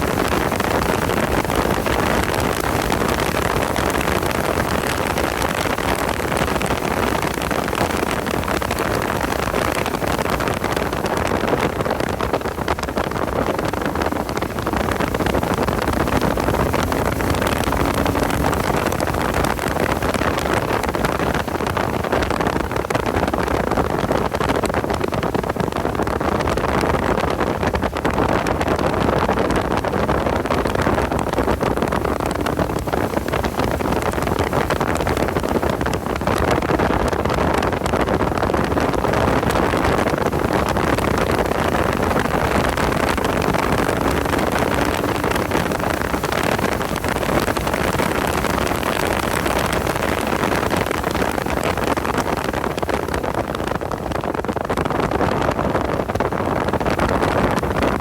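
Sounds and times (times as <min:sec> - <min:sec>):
car engine running at speed: 0:00.0 - 0:58.0
wind and road noise: 0:00.0 - 0:58.0.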